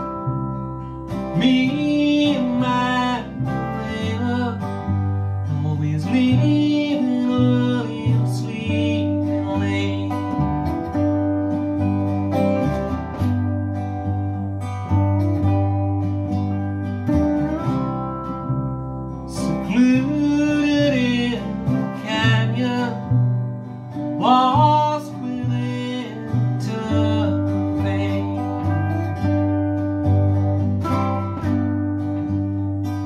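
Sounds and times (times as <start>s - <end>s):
string band country music: 0.0s - 33.0s.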